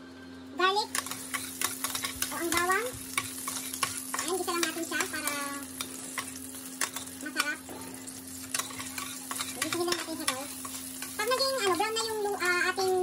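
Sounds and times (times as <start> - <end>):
garlic sizzling in oil: 0.8 - 13.0
metal spoon scraping pan: 0.9 - 12.5.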